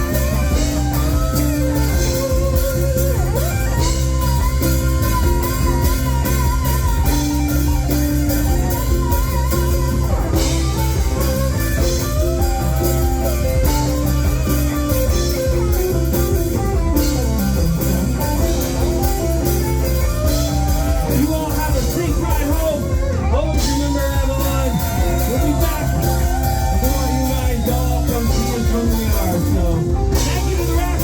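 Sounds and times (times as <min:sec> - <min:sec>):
bass: 0:00.0 - 0:31.0
drum kit: 0:00.0 - 0:31.0
guitar: 0:00.0 - 0:31.0.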